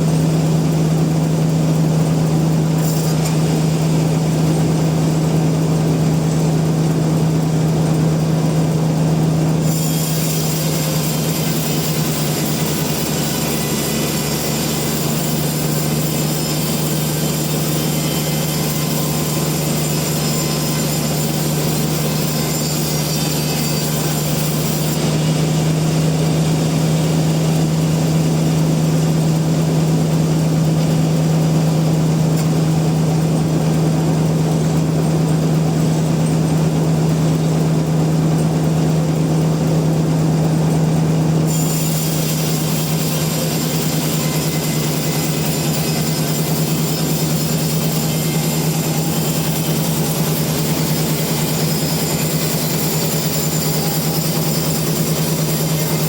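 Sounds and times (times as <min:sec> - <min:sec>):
saw cutting log: 0:00.0 - 0:56.0
sawmill machinery humming: 0:00.0 - 0:56.0.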